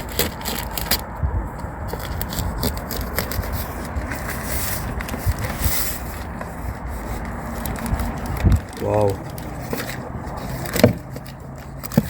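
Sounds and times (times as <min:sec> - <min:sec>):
packaging scraping and rubbing: 0:00.0 - 0:12.0.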